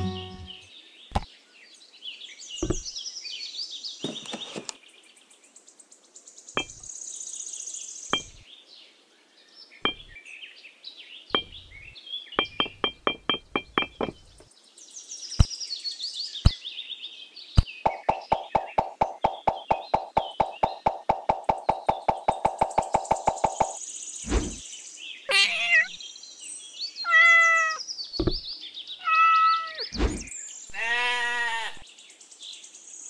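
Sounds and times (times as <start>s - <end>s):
birdsong chirping: 0.0s - 33.0s.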